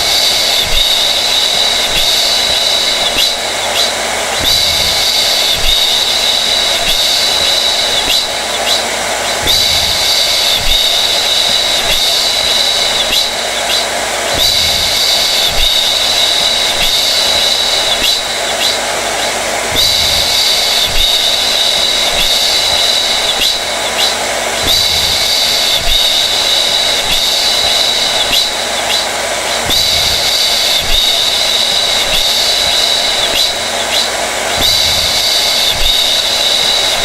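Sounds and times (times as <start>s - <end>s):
hair dryer running: 0.0s - 37.0s.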